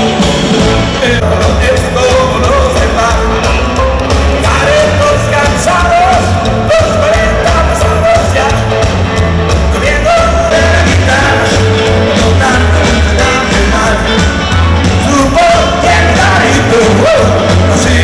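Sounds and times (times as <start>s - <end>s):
pulsing bass line: 0.0s - 18.0s
rock and roll band playing: 0.0s - 18.0s
person singing: 0.8s - 8.8s, 9.6s - 18.0s.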